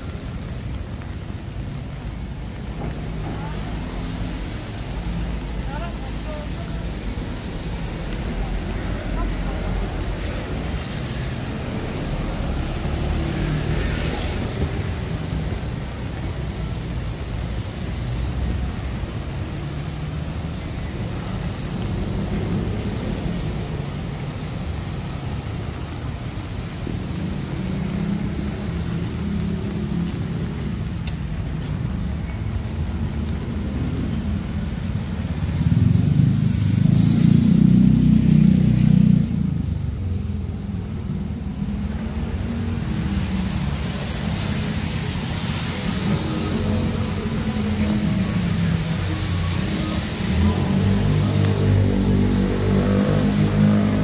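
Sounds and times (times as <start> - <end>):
street traffic rumbling: 0.0 - 54.0.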